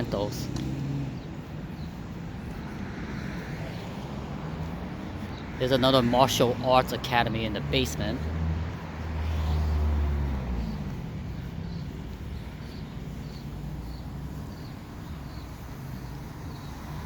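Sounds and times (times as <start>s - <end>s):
low traffic rumble: 0.0s - 17.0s
vehicle passing by: 0.0s - 17.0s.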